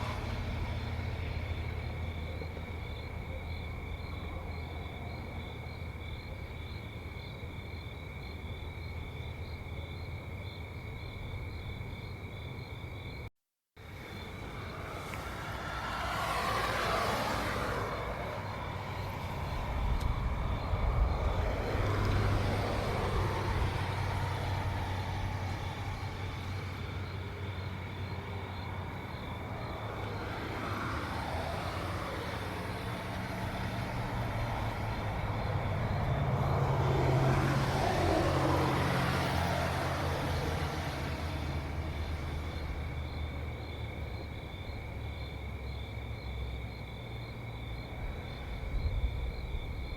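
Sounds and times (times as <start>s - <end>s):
cars passing by: 0.0s - 49.9s
insect chirping: 0.1s - 49.9s.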